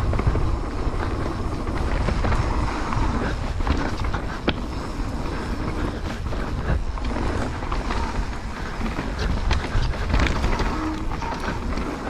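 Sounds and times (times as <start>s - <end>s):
bike rattling and knocking: 0.0s - 12.0s
tyres and wind rumbling: 0.0s - 12.0s.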